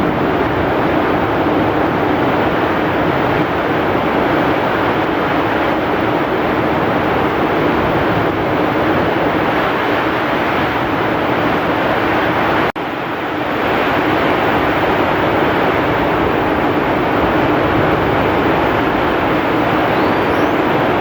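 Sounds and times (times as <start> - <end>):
heavy rain pouring: 0.0 - 21.0
strong wind: 0.0 - 21.0.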